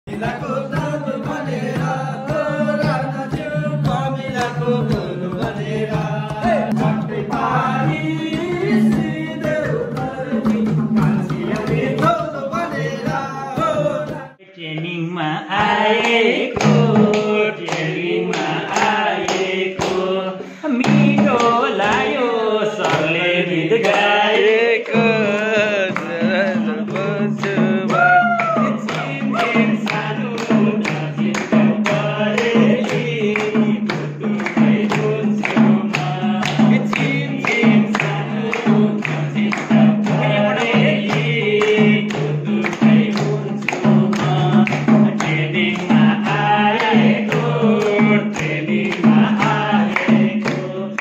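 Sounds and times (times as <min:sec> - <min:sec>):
hand claps: 0:00.1 - 0:14.3, 0:15.5 - 0:20.1, 0:20.8 - 0:22.2, 0:22.8 - 0:23.1, 0:23.7 - 0:51.0
men singing together: 0:00.1 - 0:51.0.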